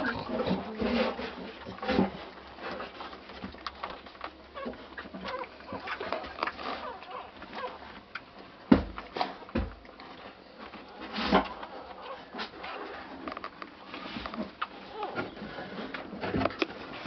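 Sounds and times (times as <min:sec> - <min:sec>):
puppies squeaking and grunting: 0:00.0 - 0:08.3, 0:11.0 - 0:17.0.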